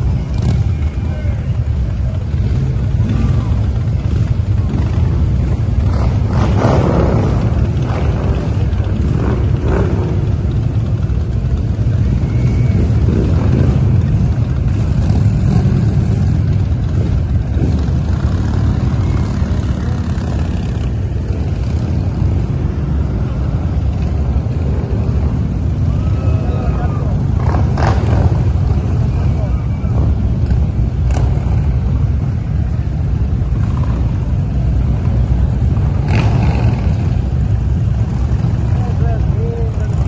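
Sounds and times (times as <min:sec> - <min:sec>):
motorcycle engines rumbling: 0:00.0 - 0:40.0.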